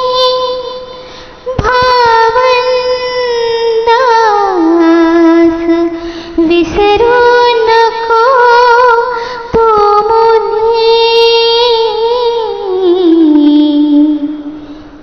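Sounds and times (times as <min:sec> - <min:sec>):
woman singing: 0:00.0 - 0:14.6.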